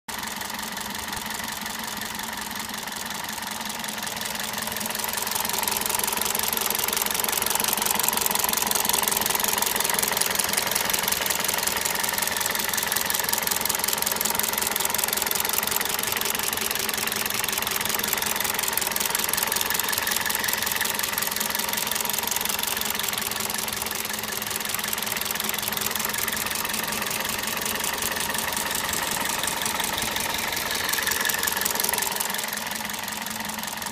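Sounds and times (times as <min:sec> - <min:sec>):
car engine idling: 0:00.1 - 0:33.9
rapid ticking clatter: 0:00.1 - 0:33.9.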